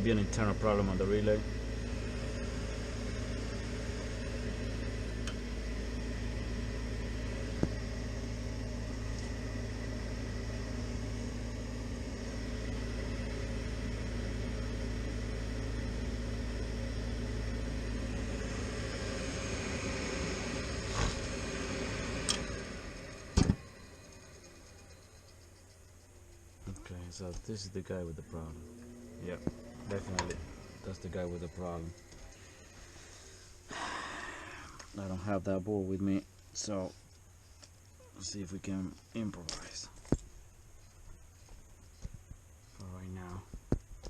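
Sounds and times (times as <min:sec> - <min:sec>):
motor humming: 0:00.0 - 0:36.0.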